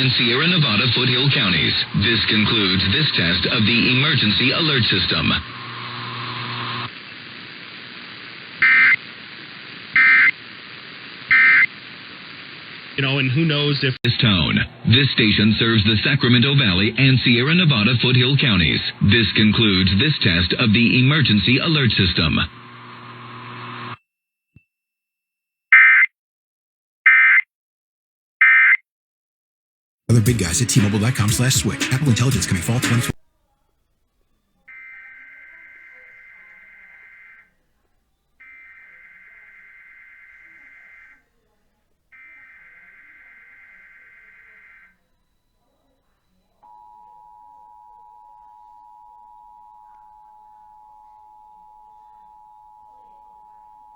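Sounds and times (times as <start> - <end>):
faint broadcast hum: 0.0 - 24.0, 30.1 - 53.9.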